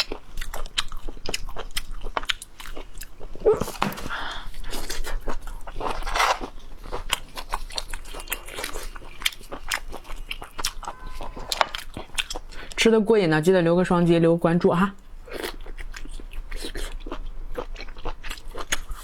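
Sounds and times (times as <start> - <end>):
person chewing crunchy food: 0.0 - 12.8, 15.2 - 19.0.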